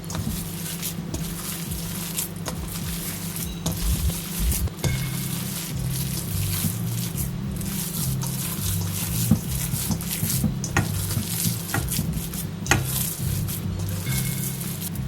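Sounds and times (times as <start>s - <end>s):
wet squishing of mixed meat: 0.0s - 15.0s.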